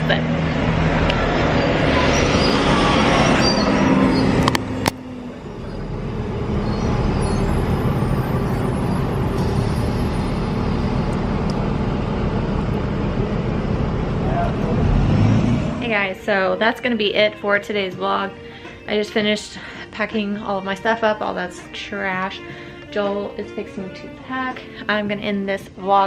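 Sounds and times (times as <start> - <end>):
road traffic rumble: 0.0 - 20.9.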